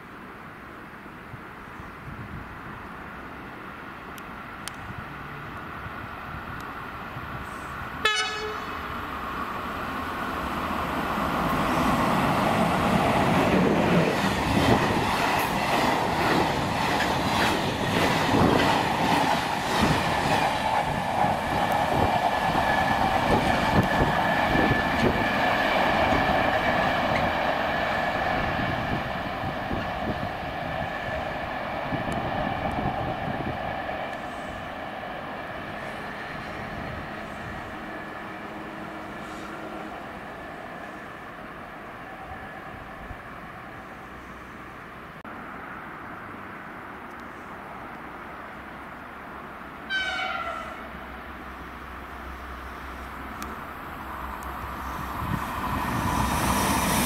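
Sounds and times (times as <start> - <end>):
steady train whine: 0.0 - 57.0
train passing rumble: 0.0 - 57.0.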